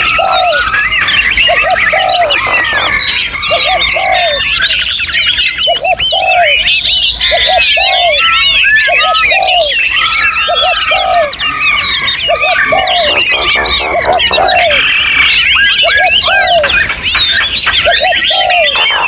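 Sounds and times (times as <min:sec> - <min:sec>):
songbirds chirping and whistling: 0:00.0 - 0:19.0.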